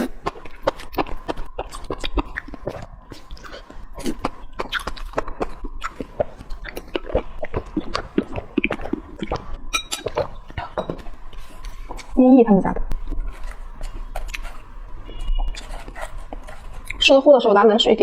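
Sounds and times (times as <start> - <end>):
person chewing food: 0.0 - 12.2, 12.9 - 17.1.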